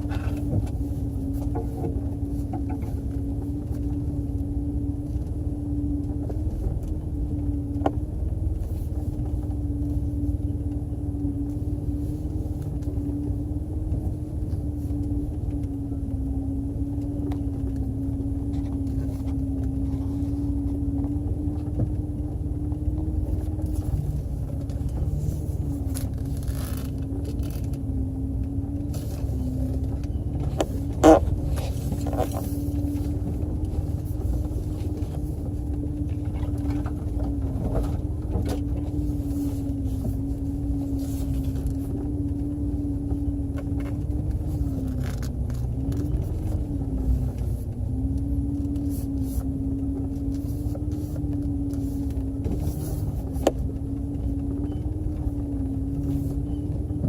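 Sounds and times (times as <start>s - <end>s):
engine and drivetrain rumble: 0.0s - 57.0s.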